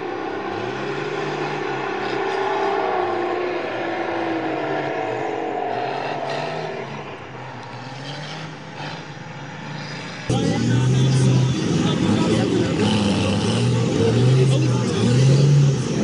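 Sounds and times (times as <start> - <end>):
diesel truck engines running hard: 0.0 - 16.0.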